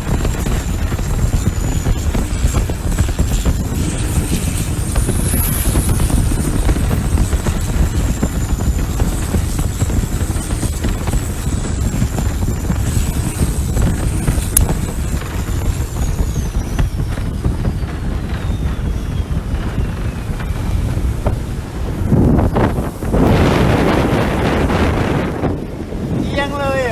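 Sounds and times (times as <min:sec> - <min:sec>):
boat diesel engine drone: 0:00.0 - 0:26.2
high engine whine: 0:00.0 - 0:26.9.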